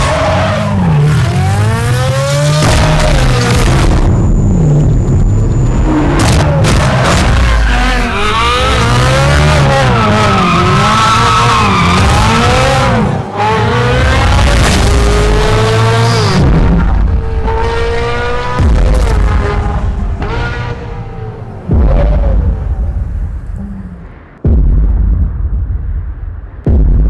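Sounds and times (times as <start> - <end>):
sports car engine revving: 0.0 - 24.4.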